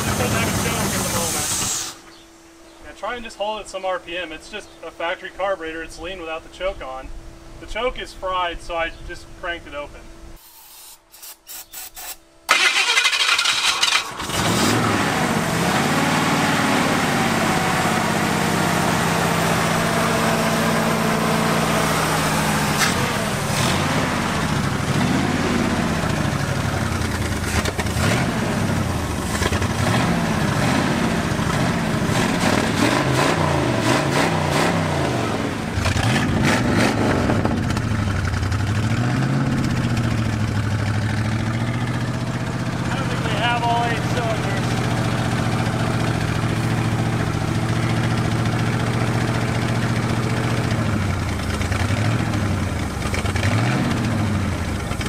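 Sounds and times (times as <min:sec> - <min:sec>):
truck engine starting and revving: 0:00.0 - 0:02.0, 0:12.5 - 0:55.0.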